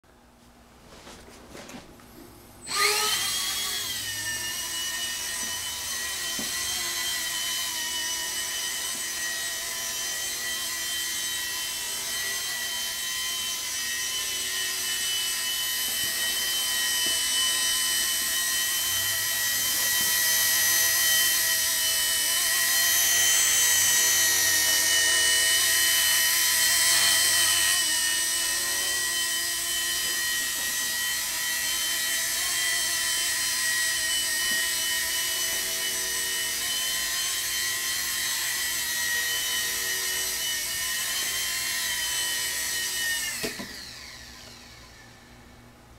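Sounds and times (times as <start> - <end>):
rc helicopter motor whining: 2.6 - 45.3.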